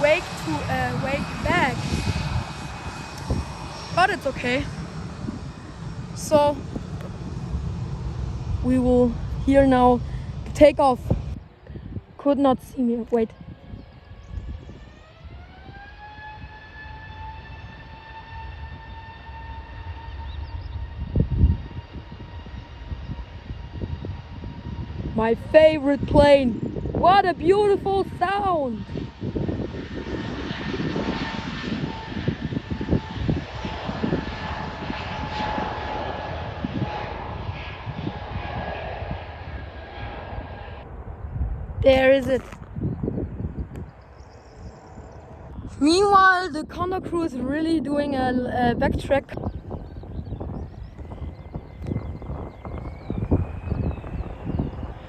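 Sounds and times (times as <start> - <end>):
jet engine low rumble: 0.0 - 55.0
jet engine whine: 0.0 - 55.0
low rumbling gust: 0.0 - 55.0.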